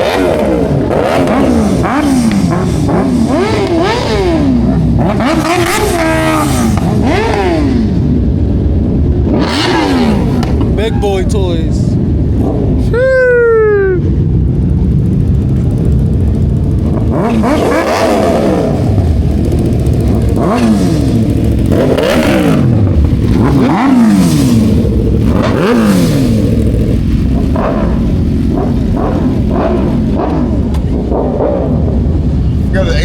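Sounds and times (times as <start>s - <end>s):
sport bike engines revving: 0.0s - 33.0s.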